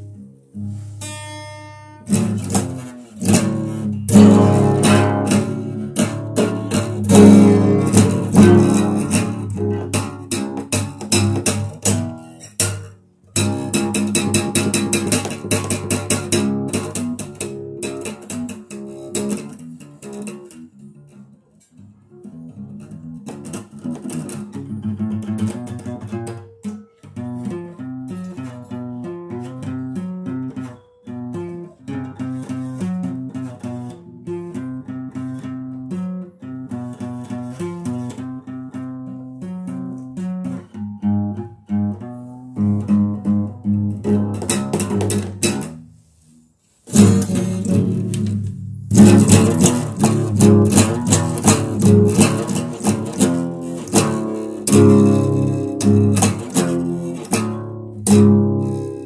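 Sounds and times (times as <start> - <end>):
guitar picked and strummed: 0.0 - 59.0.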